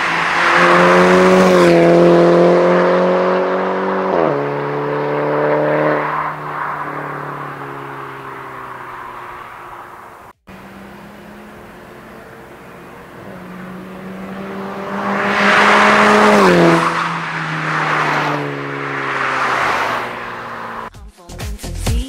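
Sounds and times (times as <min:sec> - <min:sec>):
car driving past: 0:00.0 - 0:20.9.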